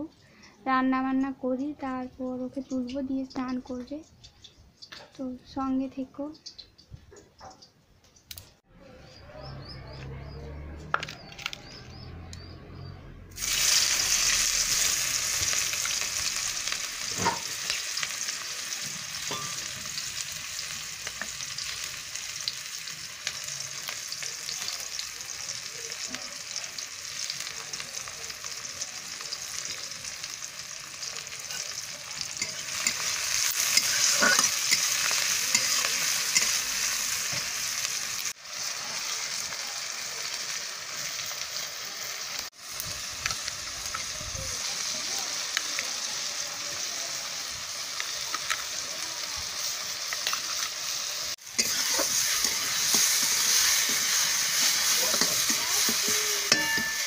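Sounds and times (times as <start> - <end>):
onion sizzling in hot oil: 0.0 - 7.0, 13.3 - 57.0.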